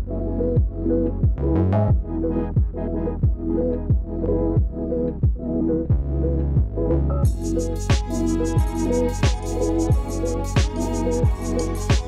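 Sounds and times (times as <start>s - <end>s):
deep kick drum: 0.0s - 12.0s.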